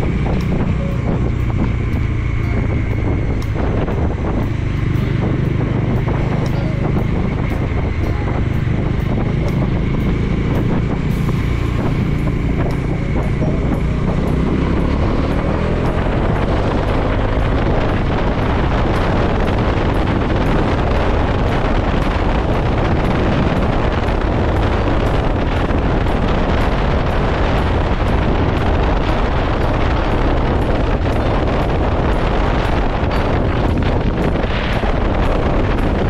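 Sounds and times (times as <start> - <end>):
motorcycle engine running: 0.0 - 36.0
wind noise on microphone: 0.0 - 36.0.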